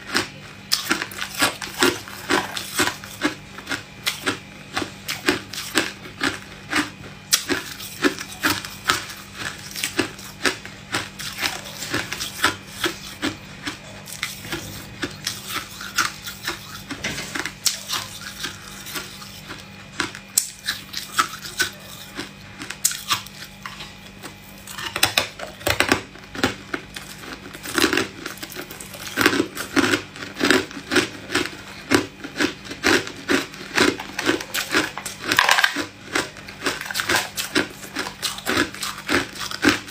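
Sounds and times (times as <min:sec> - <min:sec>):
ice crunching being chewed: 0:00.0 - 0:39.9.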